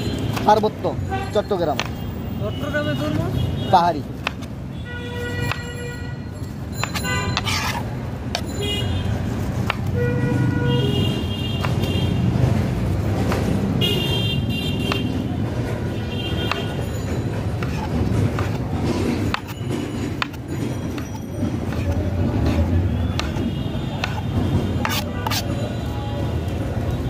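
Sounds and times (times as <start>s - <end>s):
traffic engines rumbling: 0.0s - 27.0s.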